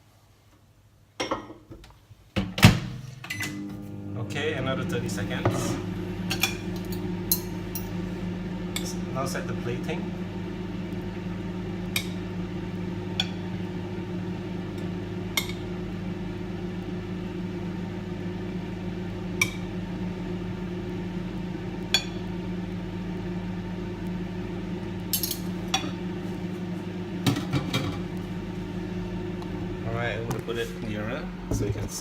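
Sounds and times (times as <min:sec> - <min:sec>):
microwave oven humming: 0:02.4 - 0:32.0.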